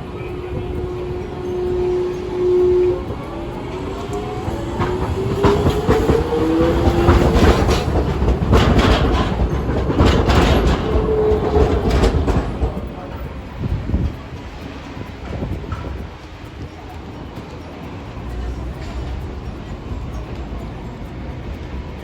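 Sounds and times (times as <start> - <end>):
streetcar motor whine: 0.0 - 22.0
wheels clacking over rail joints: 0.0 - 22.0.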